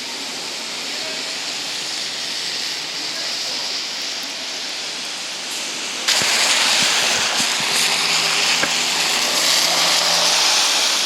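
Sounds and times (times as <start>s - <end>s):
wet street traffic: 0.0s - 11.0s
wind: 0.0s - 11.0s.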